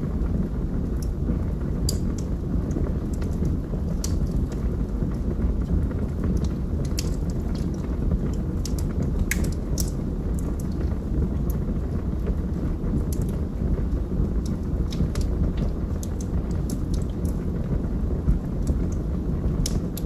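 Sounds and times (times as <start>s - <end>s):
flames rushing: 0.0s - 20.0s
logs crackling and popping: 0.1s - 20.0s.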